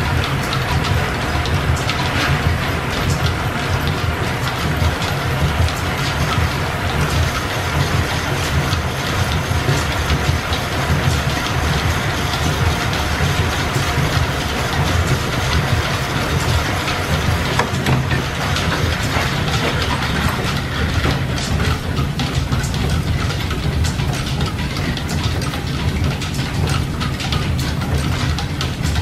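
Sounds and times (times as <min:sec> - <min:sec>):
machinery rumbling: 0:00.0 - 0:29.0.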